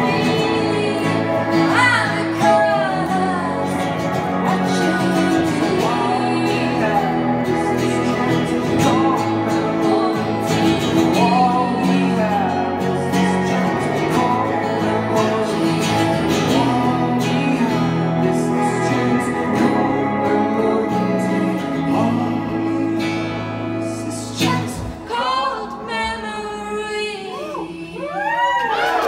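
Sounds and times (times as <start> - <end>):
live band playing: 0.0 - 27.5
woman singing: 0.0 - 29.0.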